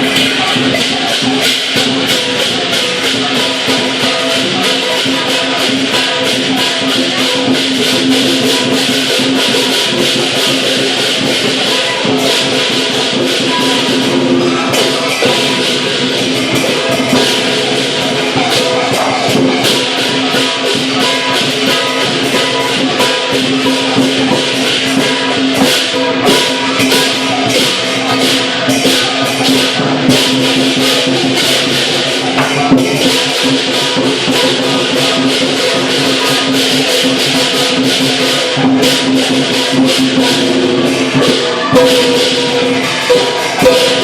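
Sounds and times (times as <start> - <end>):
cymbal crashes: 0.0 - 44.0
percussion ensemble beat: 0.0 - 44.0.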